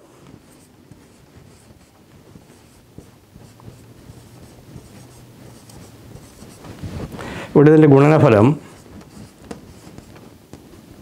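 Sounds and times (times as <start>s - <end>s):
marker scratching on whiteboard: 0.2s - 7.2s, 8.0s - 11.0s.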